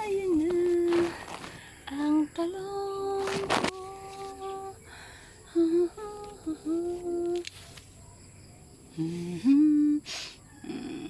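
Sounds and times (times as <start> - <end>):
person humming a tune: 0.0 - 4.8, 5.5 - 7.5, 9.0 - 11.0.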